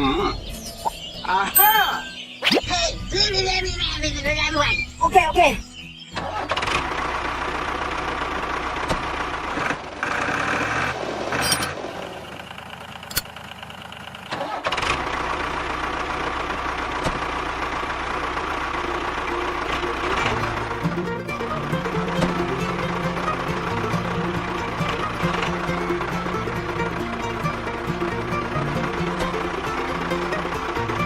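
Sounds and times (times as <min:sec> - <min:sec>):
small tractor motor running: 0:06.1 - 0:31.0.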